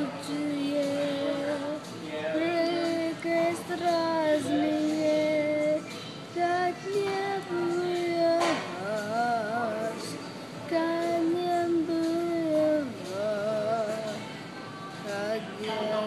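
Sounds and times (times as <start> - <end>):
boy singing: 0.0 - 14.4, 15.0 - 16.0.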